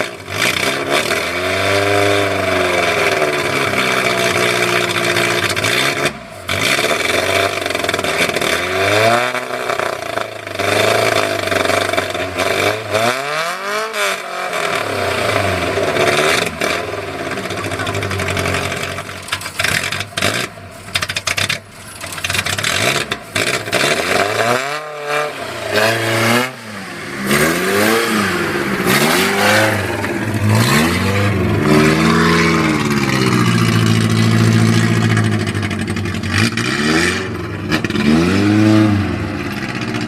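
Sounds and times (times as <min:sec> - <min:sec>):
vehicle engine revving and idling: 0:00.0 - 0:40.0.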